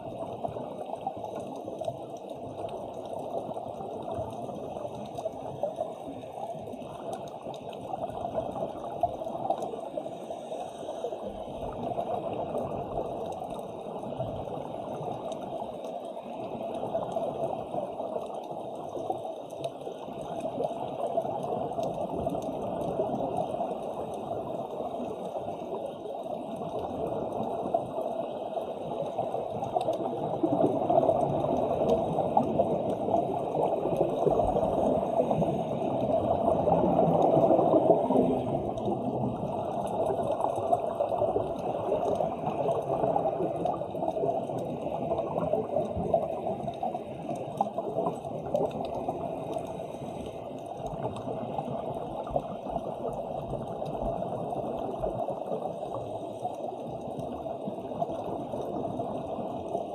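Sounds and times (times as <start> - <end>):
underwater bubbling: 0.0 - 59.9.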